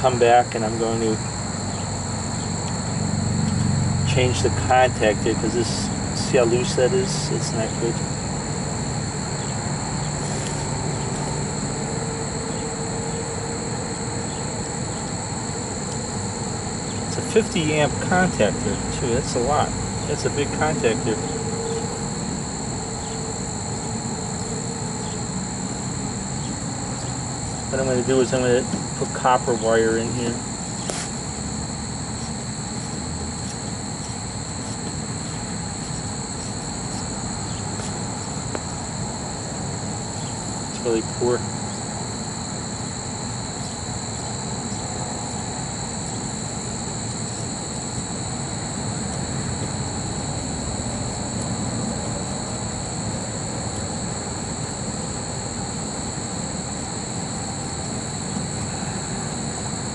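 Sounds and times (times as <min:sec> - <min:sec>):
insects trilling: 0:00.0 - 0:59.9
machine rumble and hum: 0:00.0 - 0:59.9.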